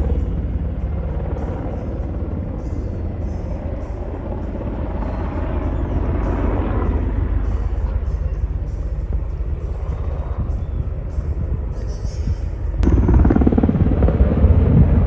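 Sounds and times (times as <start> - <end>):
helicopter rotor chop: 0.0 - 15.0.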